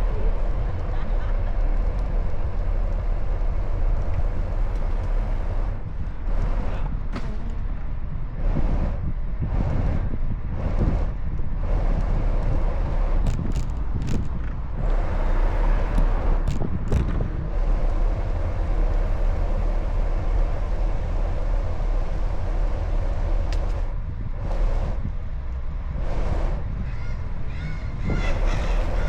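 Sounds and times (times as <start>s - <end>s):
wind and road noise rumble: 0.0s - 29.0s.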